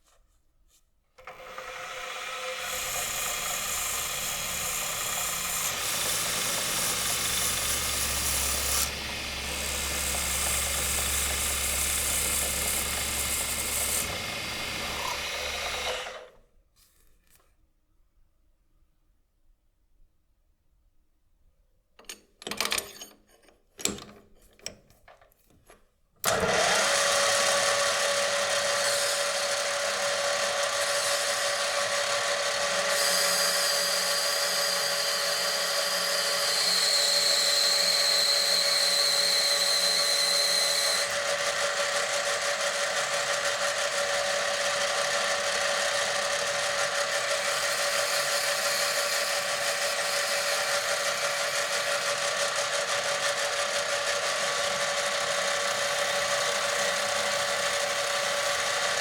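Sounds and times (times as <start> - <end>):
electric power tool humming: 1.2 - 16.3, 26.3 - 59.0.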